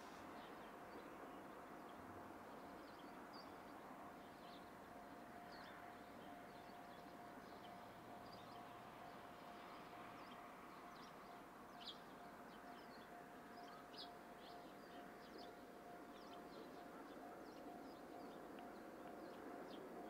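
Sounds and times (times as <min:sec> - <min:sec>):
faint steady tone: 0:00.0 - 0:20.0.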